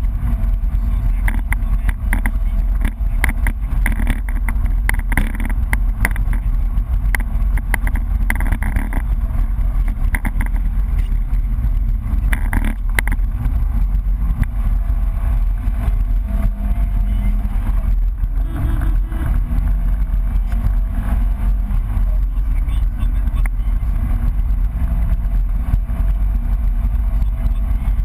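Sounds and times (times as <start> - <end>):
loud engine drone: 0.0 - 28.0
road noise: 0.0 - 28.0
sharp clicks and knocks: 0.0 - 28.0.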